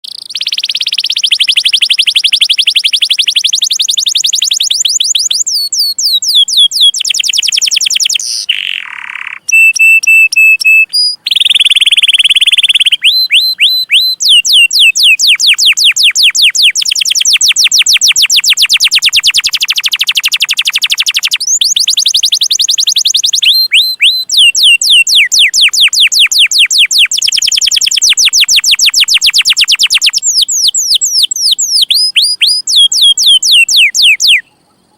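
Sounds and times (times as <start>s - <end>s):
canary singing: 0.0s - 34.7s.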